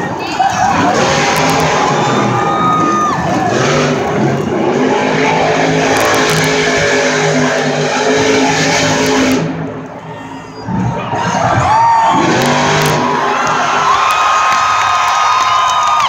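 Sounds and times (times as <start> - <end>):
monster truck engines revving: 0.0 - 16.0.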